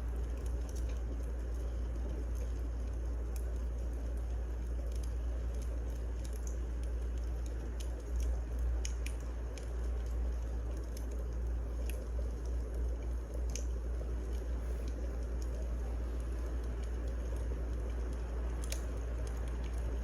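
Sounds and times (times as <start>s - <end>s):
fire crackles and pops: 0.0s - 20.0s
wood fire hissing and rumbling: 0.0s - 20.0s.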